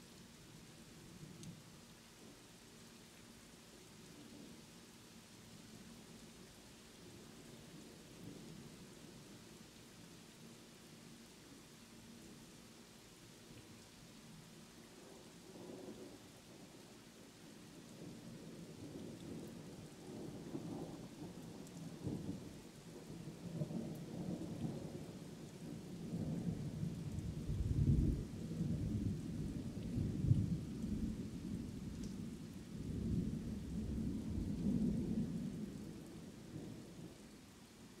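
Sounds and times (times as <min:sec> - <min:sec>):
rain hiss: 0:00.0 - 0:38.0.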